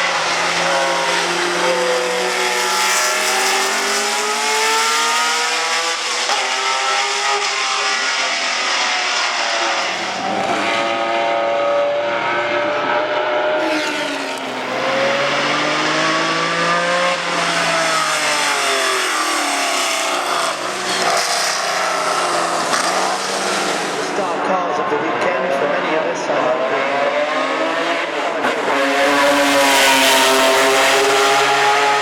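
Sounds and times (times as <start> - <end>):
racing engine at high revs: 0.0 - 32.0.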